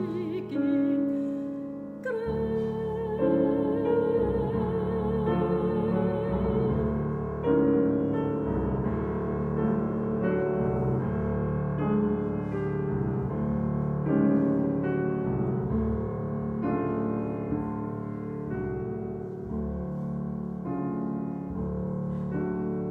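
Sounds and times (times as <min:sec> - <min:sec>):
grand piano chords: 0:00.0 - 0:22.9.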